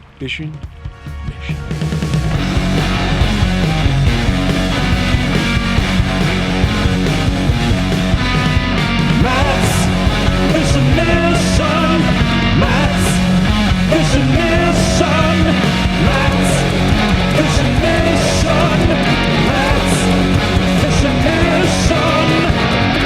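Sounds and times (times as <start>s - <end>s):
rock background music: 0.0s - 23.0s.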